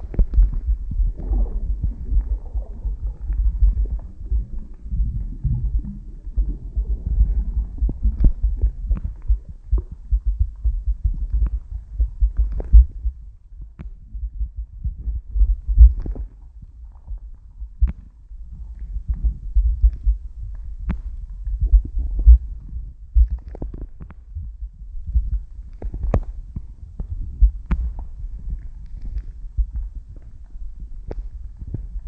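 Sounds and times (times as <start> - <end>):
underwater rumbling of moving water: 0.0 - 32.0.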